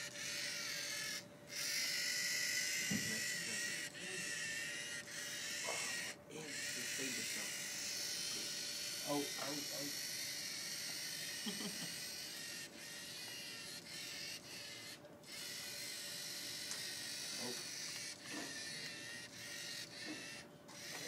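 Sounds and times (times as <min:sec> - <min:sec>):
robot servo motors whirring: 0:00.0 - 0:21.0.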